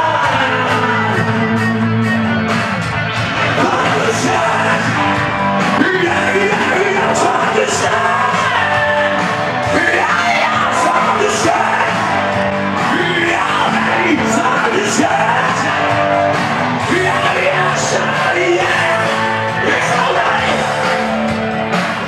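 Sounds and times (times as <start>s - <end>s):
man singing: 0.0s - 2.2s, 3.4s - 22.0s
karaoke backing track: 0.0s - 22.0s.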